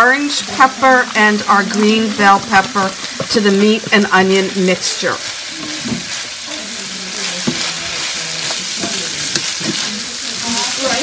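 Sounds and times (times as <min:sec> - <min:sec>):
vegetables and meat sizzling in pan: 0:00.0 - 0:11.0.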